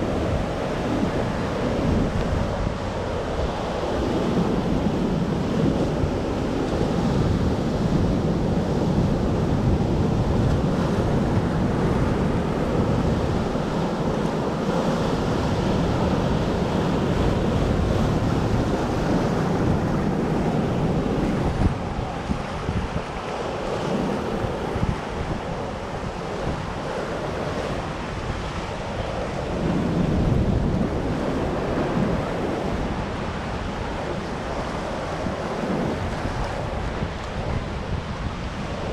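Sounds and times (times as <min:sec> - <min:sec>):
storm surf crashing on beach: 0:00.0 - 0:38.9
wind buffeting microphone: 0:00.0 - 0:38.9.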